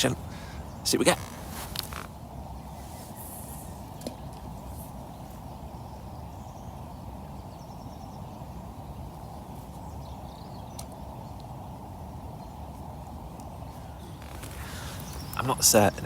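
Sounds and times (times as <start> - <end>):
faint high bird chirps: 0.0 - 16.0
low rushing background noise: 0.0 - 16.0.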